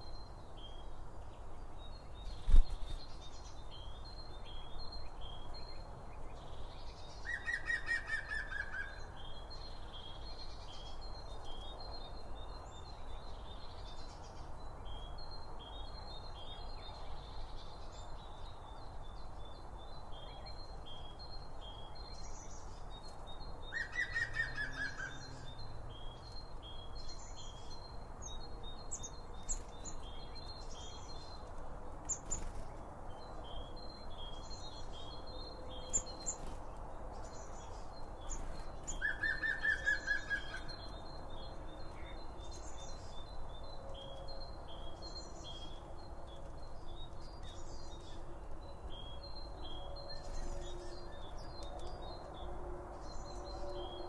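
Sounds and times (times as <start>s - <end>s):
birdsong with falling trill: 0.0s - 54.0s
garden birds chirping: 0.0s - 54.0s.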